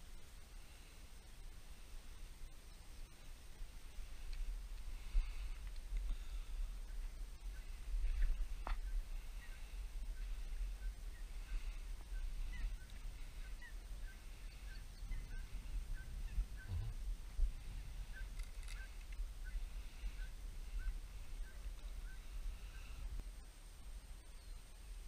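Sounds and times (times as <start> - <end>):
birds calling: 1.8 - 23.2
wind rumbling on microphone: 3.4 - 25.0.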